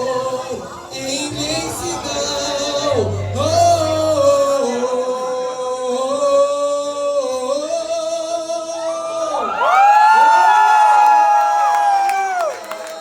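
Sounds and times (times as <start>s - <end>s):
karaoke backing track: 0.0s - 13.0s.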